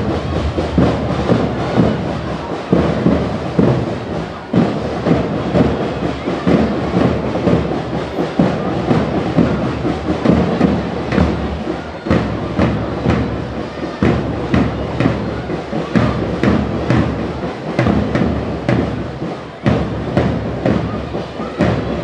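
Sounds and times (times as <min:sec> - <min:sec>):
drums beating: 0:00.0 - 0:22.0
marching band playing: 0:00.0 - 0:22.0.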